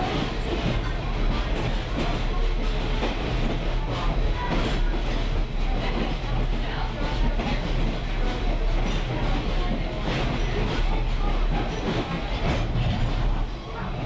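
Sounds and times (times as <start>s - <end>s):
train rumbling on tracks: 0.0s - 14.0s.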